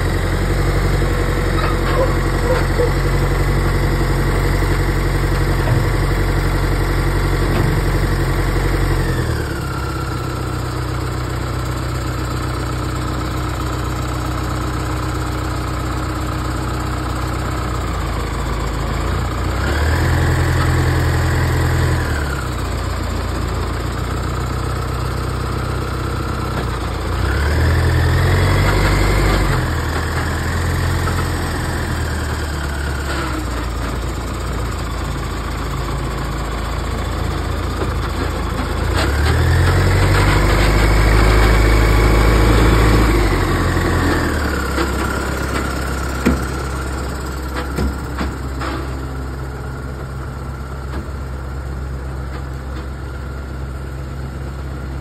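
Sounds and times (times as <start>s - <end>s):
backhoe engine revving: 0.0s - 55.0s.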